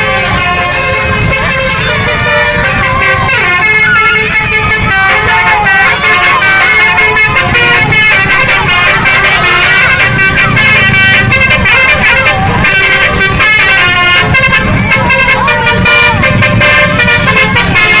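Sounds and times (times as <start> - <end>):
bus musical horn chords: 0.0 - 18.0
people shouting: 0.0 - 18.0.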